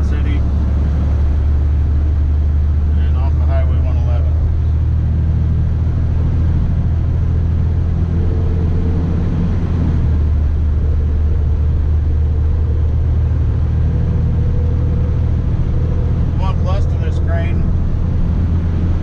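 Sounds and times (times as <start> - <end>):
diesel engine drone: 0.0 - 19.0
road noise: 0.0 - 19.0.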